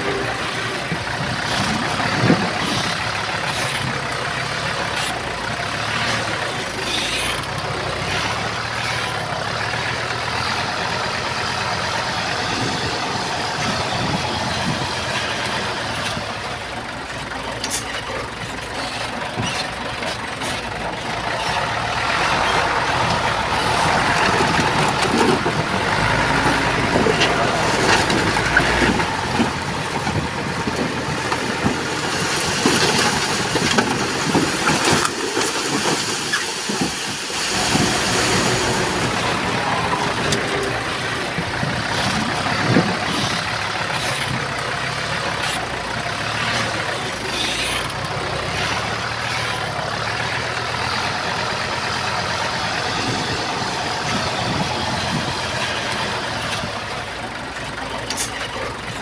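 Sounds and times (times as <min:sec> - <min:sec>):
diesel engines running: 0:00.0 - 0:59.0
knocks and clanks: 0:00.0 - 0:59.0.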